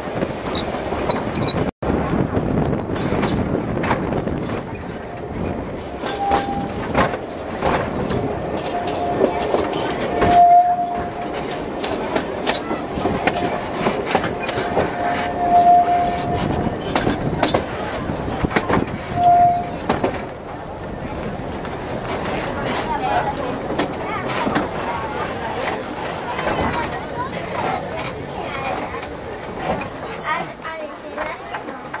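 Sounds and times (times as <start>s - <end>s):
train rumbling: 0.0s - 32.0s
wheels clicking over rail joints: 0.0s - 32.0s.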